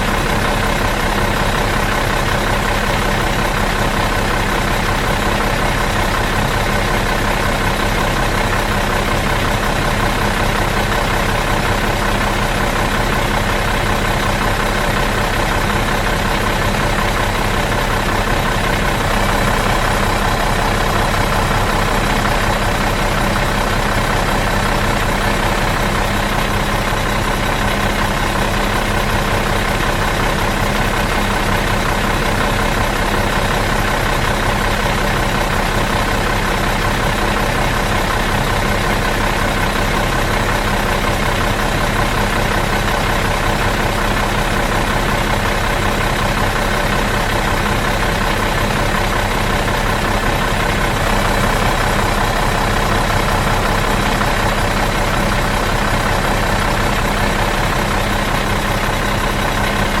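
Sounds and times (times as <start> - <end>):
bus engine idling: 0.0 - 60.0.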